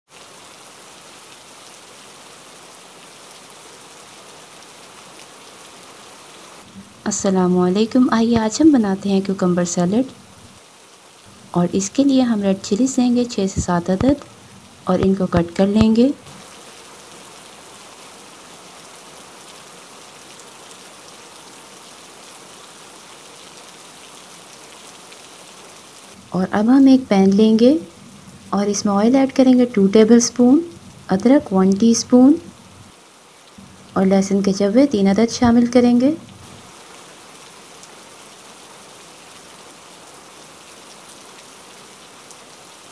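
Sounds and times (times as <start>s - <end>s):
rain-like hiss: 0.1s - 42.9s.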